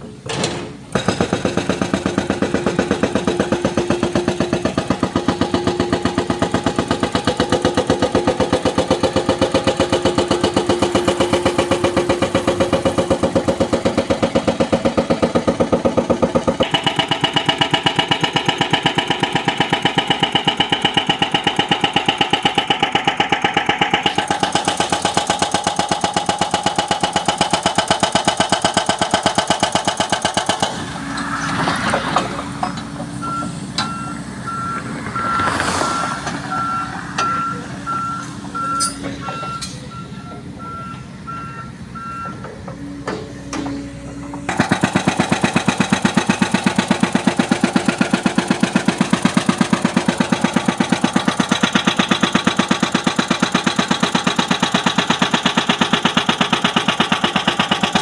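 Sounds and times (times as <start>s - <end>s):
hydraulic breaker hammering concrete: 0.0s - 33.9s, 42.2s - 58.0s.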